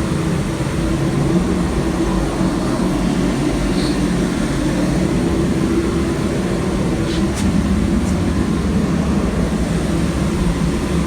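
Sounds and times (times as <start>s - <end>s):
mechanical drone with low hum: 0.0s - 11.0s.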